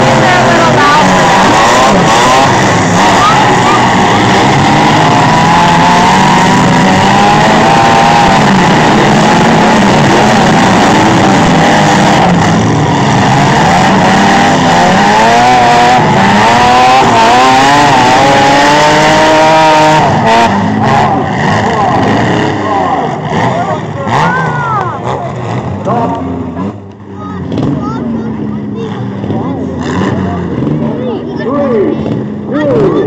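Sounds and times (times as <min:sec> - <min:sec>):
vehicle engines revving: 0:00.0 - 0:33.0.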